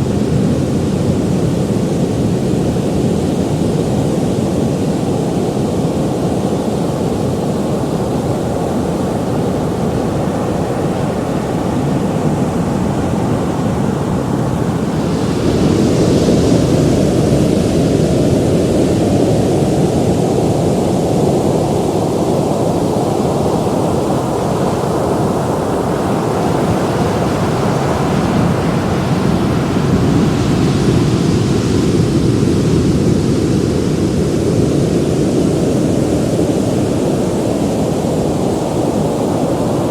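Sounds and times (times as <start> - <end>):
low rumble of waves: 0.0 - 39.9.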